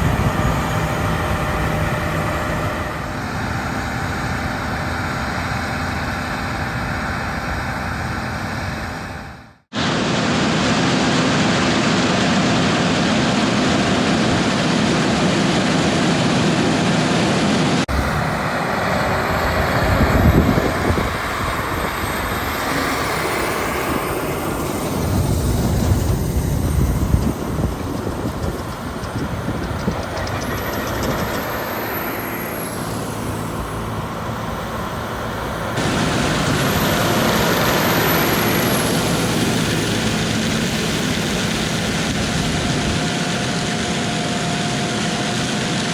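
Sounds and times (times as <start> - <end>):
combine harvester: 0.0 - 45.9
tractor engine: 0.0 - 45.9.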